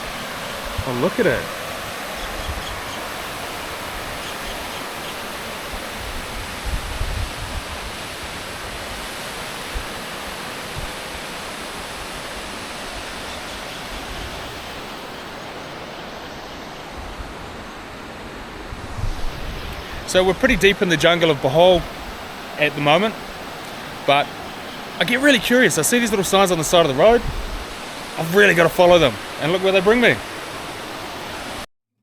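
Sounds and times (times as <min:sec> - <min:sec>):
water roaring at a dam: 0:00.0 - 0:31.6.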